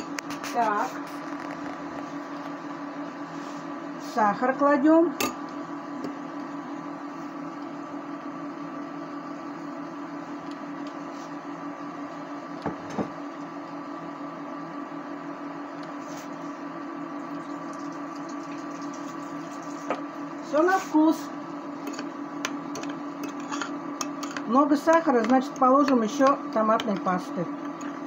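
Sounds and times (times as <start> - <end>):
kitchen appliance electrical hum: 0.0 - 28.0.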